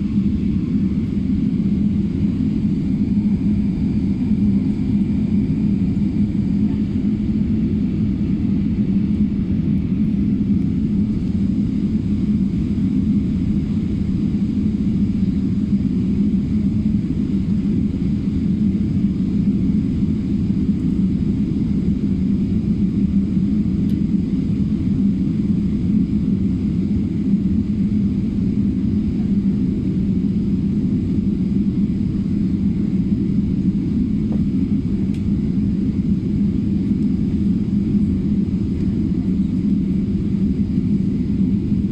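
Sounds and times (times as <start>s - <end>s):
jet engines and airflow rumbling: 0.0s - 41.9s.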